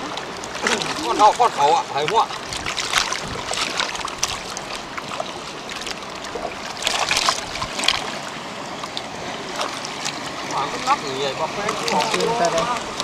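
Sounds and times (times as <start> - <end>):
water splashing and running: 0.0 - 13.0.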